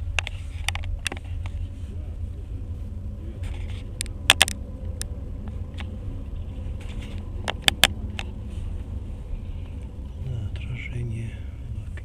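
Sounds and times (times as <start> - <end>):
low rumble of moving train: 0.0 - 12.0.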